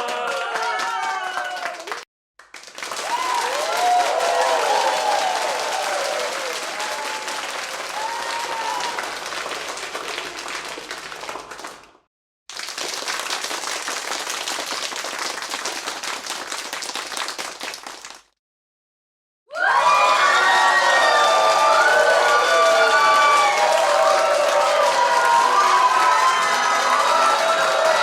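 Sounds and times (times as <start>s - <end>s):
crowd applauding: 0.0s - 18.3s, 19.6s - 28.0s.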